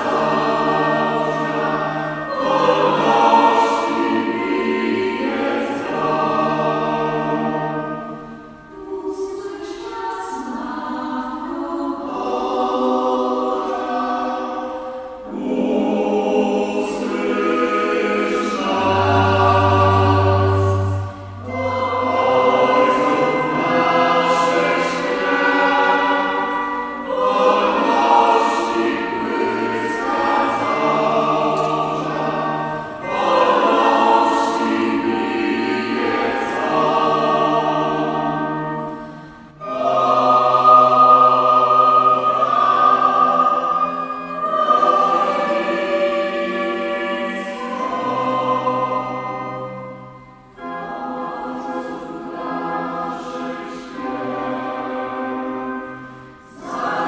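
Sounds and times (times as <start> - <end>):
choir singing a hymn: 0.0 - 57.0
electronic organ sustained notes: 0.0 - 57.0.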